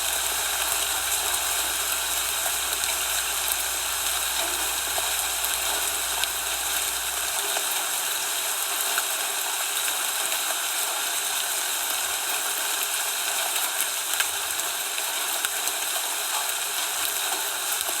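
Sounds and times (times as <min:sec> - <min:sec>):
hiss of falling precipitation: 0:00.0 - 0:18.0.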